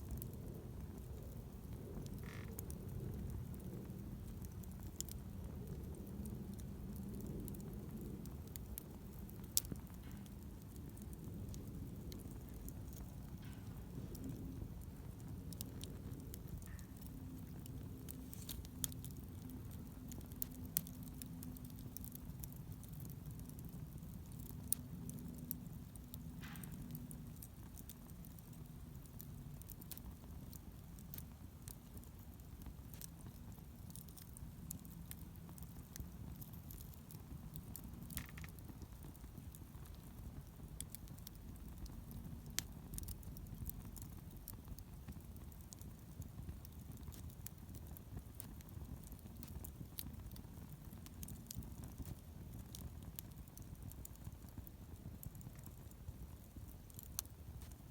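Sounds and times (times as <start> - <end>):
low steady hum: 0.0 - 57.9
wood fire crackling: 0.0 - 57.9.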